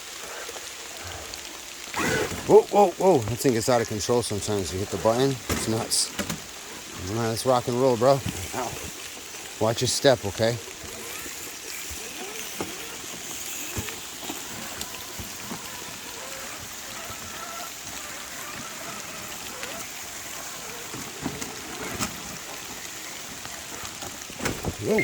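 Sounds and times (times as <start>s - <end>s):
rain on leaves: 0.0s - 25.0s
water drips: 0.0s - 25.0s.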